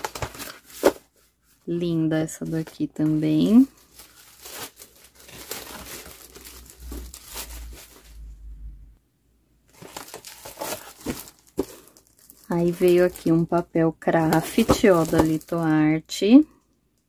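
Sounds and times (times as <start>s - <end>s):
plastic wrap crinkling: 0.0s - 1.2s, 2.0s - 8.3s, 9.7s - 15.9s.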